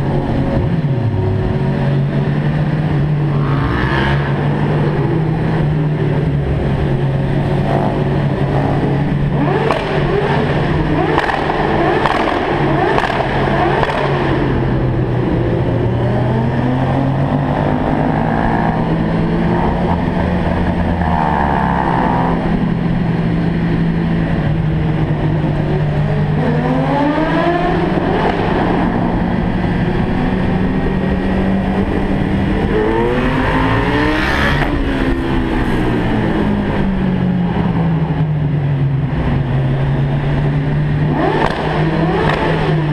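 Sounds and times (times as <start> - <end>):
car engine revving in tunnel: 0.0 - 42.9.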